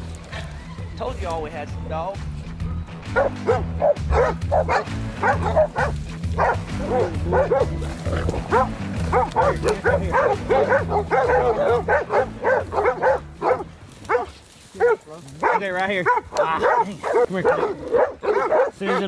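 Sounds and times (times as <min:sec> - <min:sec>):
low background music: 0:00.0 - 0:19.0
dogs baying and barking: 0:02.4 - 0:19.0.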